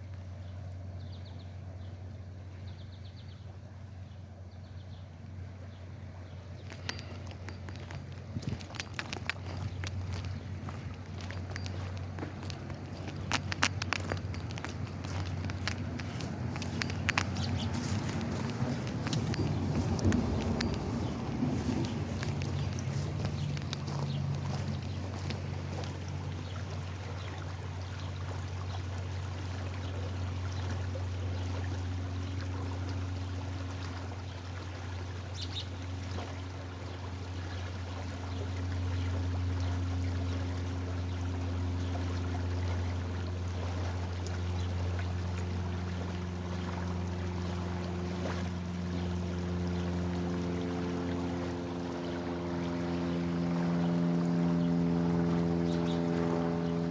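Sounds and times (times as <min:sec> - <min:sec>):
low mechanical hum: 0:00.0 - 0:56.9
flowing water: 0:05.4 - 0:56.9.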